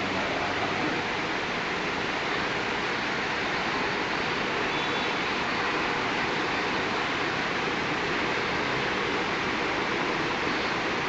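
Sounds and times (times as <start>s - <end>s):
city traffic roar: 0.0s - 11.0s.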